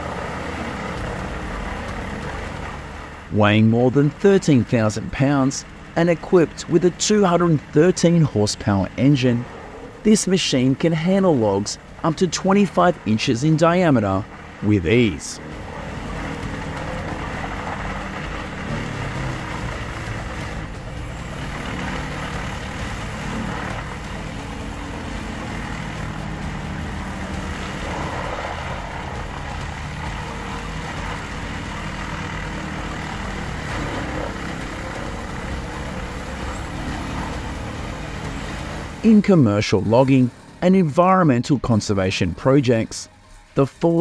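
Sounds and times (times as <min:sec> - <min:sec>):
wood chipper running: 0:00.0 - 0:03.4, 0:04.8 - 0:10.1, 0:11.7 - 0:39.1.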